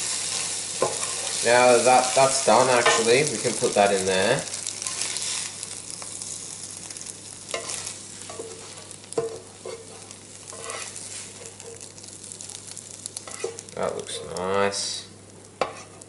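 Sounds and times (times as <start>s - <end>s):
eggs sizzling in frying pan: 0.0s - 16.0s.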